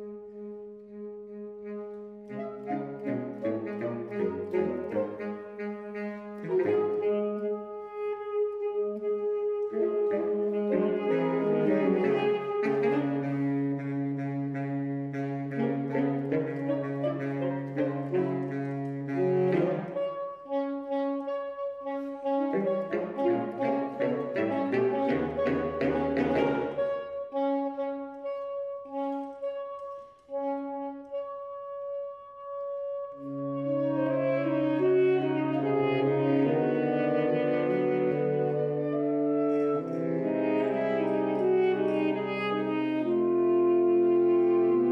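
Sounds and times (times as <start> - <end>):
saxophone quartet playing: 0.0 - 44.9.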